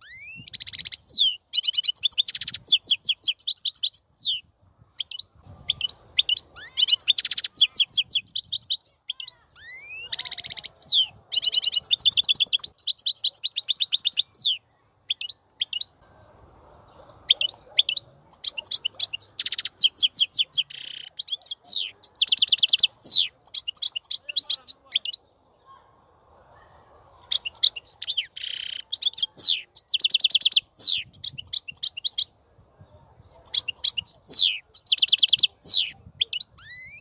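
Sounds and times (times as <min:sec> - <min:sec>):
goldfinch twittering song: 0:00.0 - 0:16.0, 0:16.8 - 0:25.2, 0:27.2 - 0:32.3, 0:33.4 - 0:37.0.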